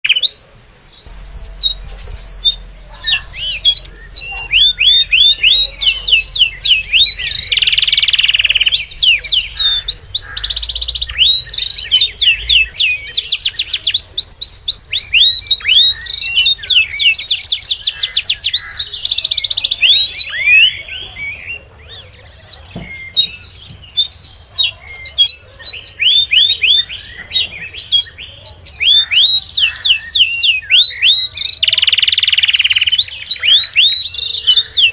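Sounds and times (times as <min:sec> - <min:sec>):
flock of small birds chirping: 0:00.0 - 0:34.9.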